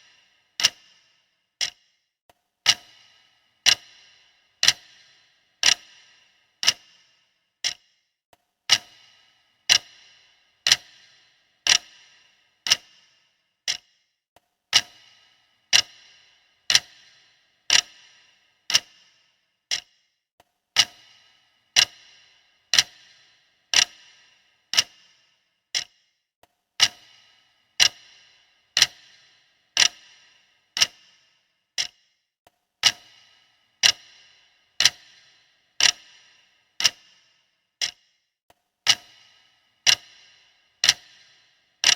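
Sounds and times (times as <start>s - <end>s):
clock ticking: 0.0s - 8.1s, 8.7s - 14.1s, 14.7s - 20.2s, 20.8s - 26.2s, 26.8s - 32.2s, 32.8s - 41.9s.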